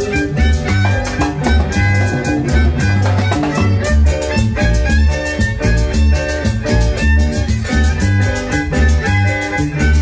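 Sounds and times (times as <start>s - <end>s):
bass line: 0.0s - 10.0s
live latin dance band: 0.0s - 10.0s.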